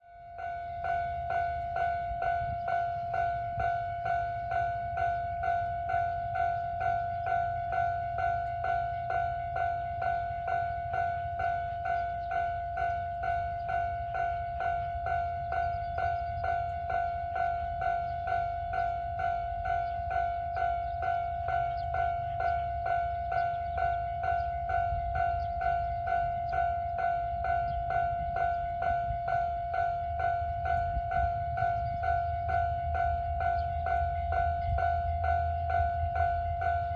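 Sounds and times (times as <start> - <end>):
level-crossing alarm ringing: 0.0 - 36.9.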